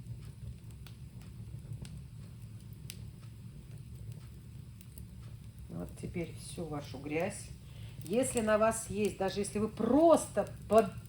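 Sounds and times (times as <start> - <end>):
fireplace fire crackling: 0.0 - 11.0.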